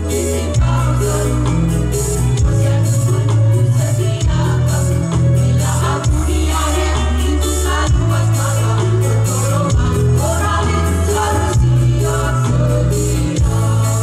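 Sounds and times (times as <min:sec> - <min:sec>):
deep bass line: 0:00.0 - 0:14.0
steady percussion: 0:00.0 - 0:14.0
women's choir singing: 0:00.0 - 0:14.0.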